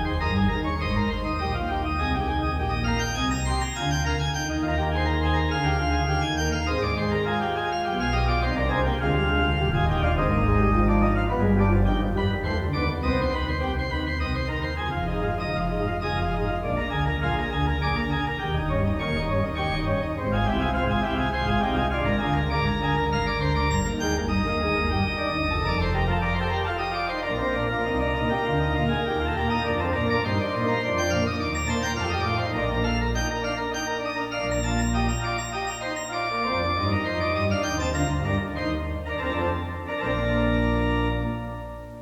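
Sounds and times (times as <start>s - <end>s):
organ playing chords: 0.0s - 42.0s.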